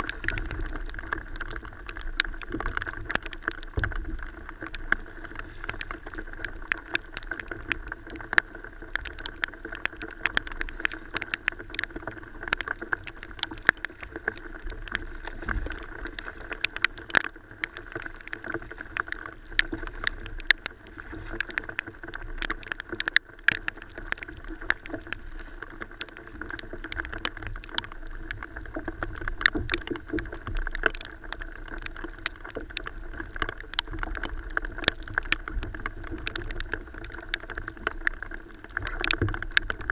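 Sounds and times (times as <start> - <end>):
water slapping kayak hull: 0.0 - 39.9.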